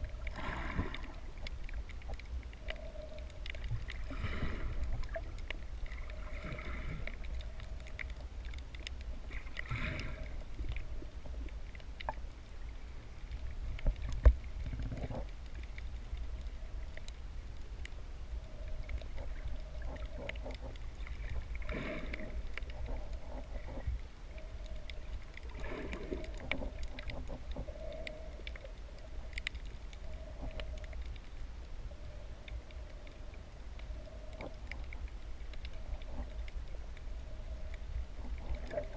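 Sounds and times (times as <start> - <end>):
faint hum: 0.0 - 38.9
underwater rumble: 0.0 - 38.9
water swishing: 0.0 - 38.9.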